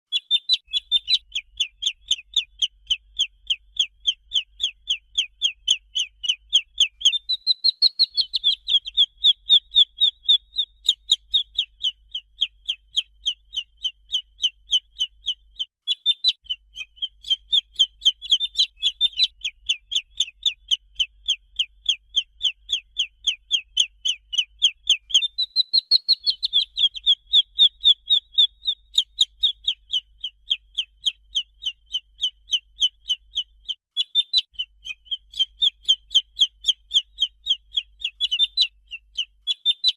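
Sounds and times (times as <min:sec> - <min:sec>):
chick peeping: 0:00.1 - 0:39.9.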